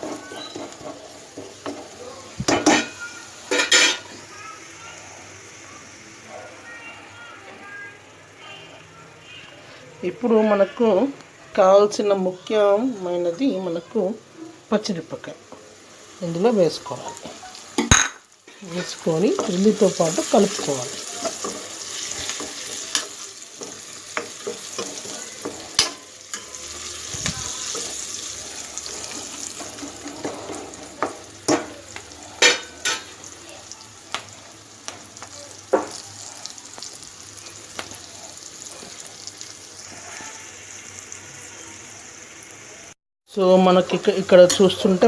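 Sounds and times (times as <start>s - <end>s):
onions sizzling in oil: 0.0s - 45.0s.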